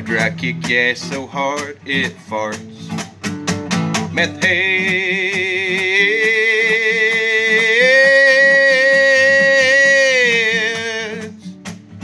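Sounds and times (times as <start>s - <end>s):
acoustic guitar strums: 0.0s - 12.0s.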